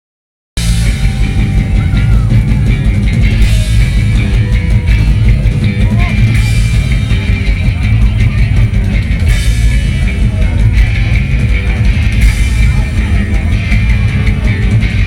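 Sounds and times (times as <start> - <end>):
live rock band playing: 0.6 - 15.0.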